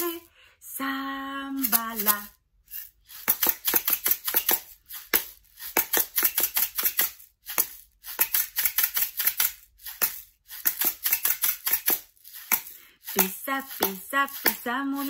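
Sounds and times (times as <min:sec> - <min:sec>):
plastic shaker filled with grains: 0:00.0 - 0:00.3, 0:01.6 - 0:15.0.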